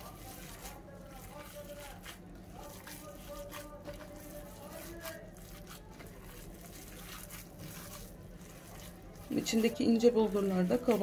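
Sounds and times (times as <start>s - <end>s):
wet squishing of kneaded meat: 0.0s - 11.0s.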